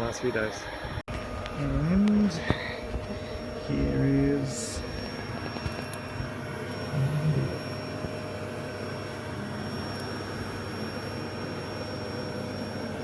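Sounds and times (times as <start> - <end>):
bee vacuum humming: 0.0 - 13.0.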